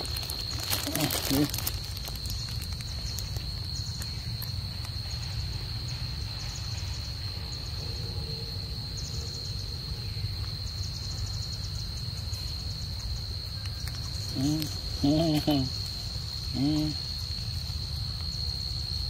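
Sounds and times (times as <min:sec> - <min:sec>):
high-pitched insect drone: 0:00.0 - 0:19.0
trilling insect chirps: 0:00.0 - 0:19.0.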